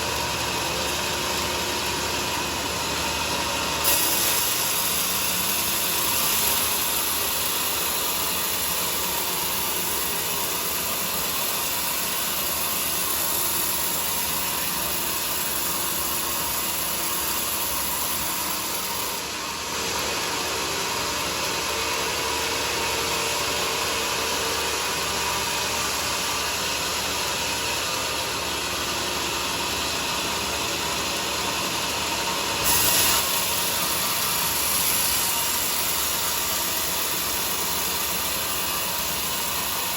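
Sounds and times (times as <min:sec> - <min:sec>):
bandsaw sawmill running: 0:00.0 - 0:39.9.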